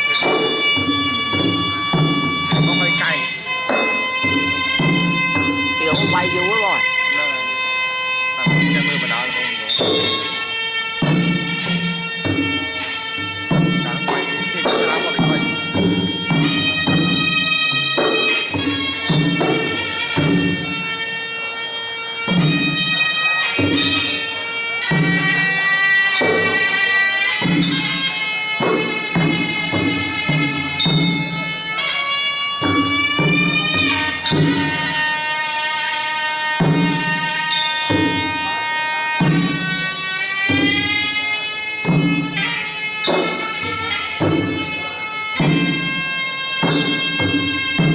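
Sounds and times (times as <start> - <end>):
hand drums beating: 0.0 - 7.6, 8.3 - 21.0, 22.2 - 41.2, 41.8 - 47.9
reed oboe melody: 0.0 - 47.9.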